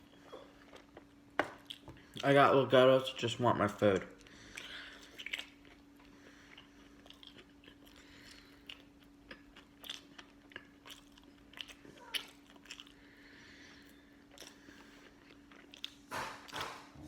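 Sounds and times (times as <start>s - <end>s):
person chewing crunchy food: 0.0s - 2.3s, 4.2s - 16.8s
faint steady hum: 0.0s - 17.0s.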